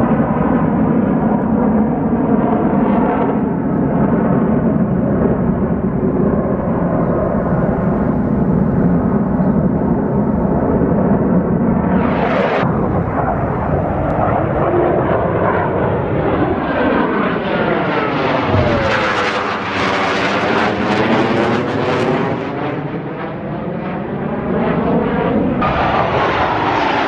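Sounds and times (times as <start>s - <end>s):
aircraft engine flying past: 0.0s - 27.0s.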